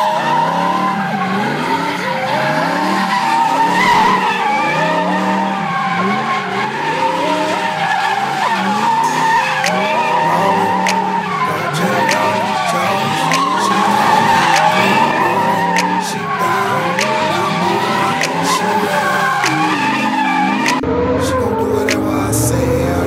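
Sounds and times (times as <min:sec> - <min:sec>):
tyres squealing on pavement: 0:00.0 - 0:20.8
car engine revving: 0:00.0 - 0:23.0.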